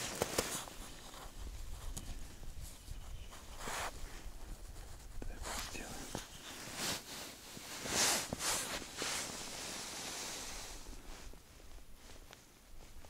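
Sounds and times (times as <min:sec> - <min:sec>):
padded jacket rustling: 0:00.0 - 0:13.0.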